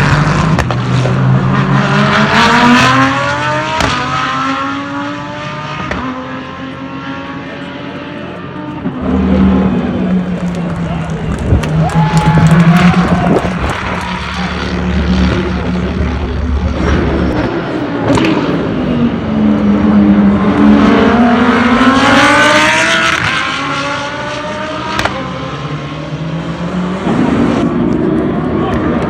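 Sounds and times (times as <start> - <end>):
race car engine accelerating: 0.0 - 29.0.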